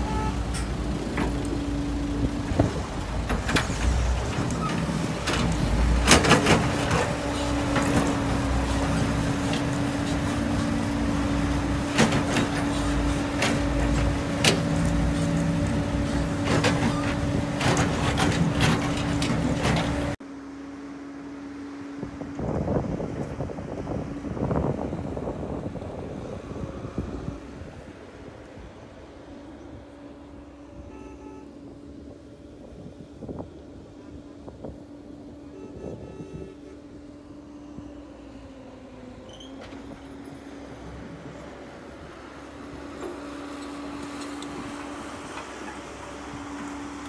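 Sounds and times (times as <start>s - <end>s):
diesel engines running with whine: 0.0s - 47.0s.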